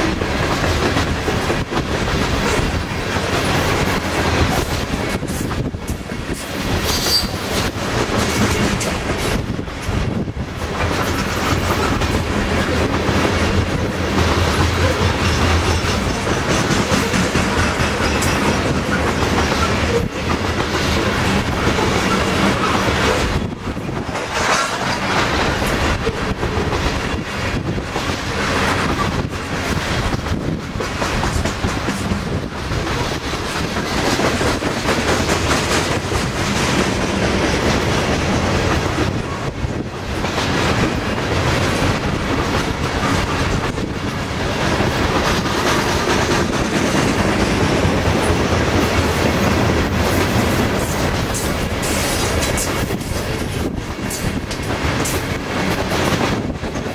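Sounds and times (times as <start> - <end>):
clickety-clack of rail joints: 0.0 - 56.9
steel wheels rumbling on rail: 0.0 - 56.9.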